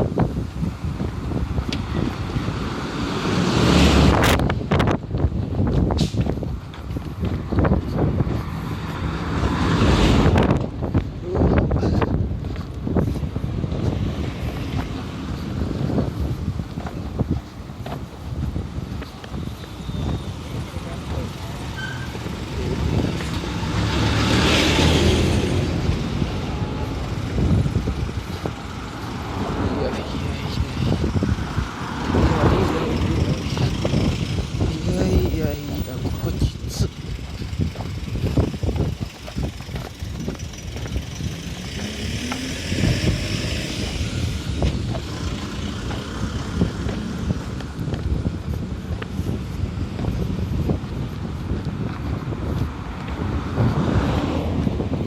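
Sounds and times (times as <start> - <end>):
car tyres passing on road: 0.0 - 55.0
low traffic rumble: 0.0 - 55.0.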